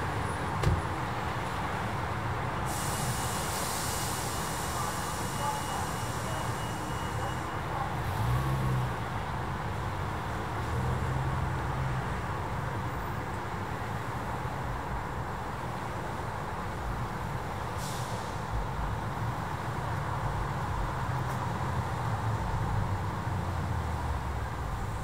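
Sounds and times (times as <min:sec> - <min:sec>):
cars passing by: 0:00.0 - 0:25.0.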